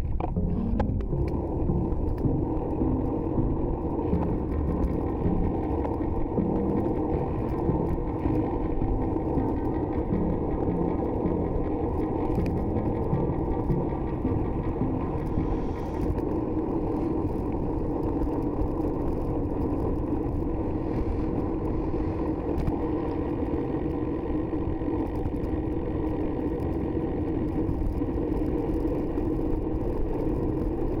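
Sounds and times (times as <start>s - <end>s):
muffled vehicle rumble: 0.0s - 31.0s.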